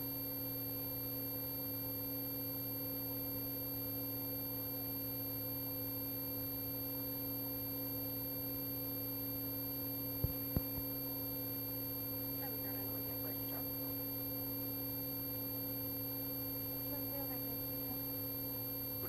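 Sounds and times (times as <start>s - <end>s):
steady electronic hum: 0.0s - 19.0s.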